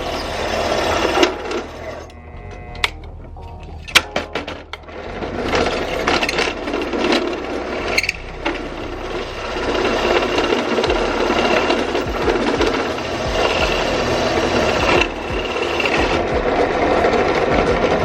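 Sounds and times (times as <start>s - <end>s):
tool grinding into plastic: 0.0s - 3.1s, 3.9s - 18.0s.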